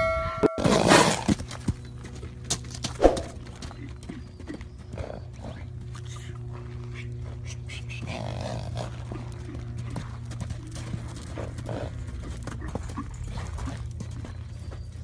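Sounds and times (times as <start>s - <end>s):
horse hooves on sand: 0.7s - 15.0s
steady low hum: 1.2s - 15.0s.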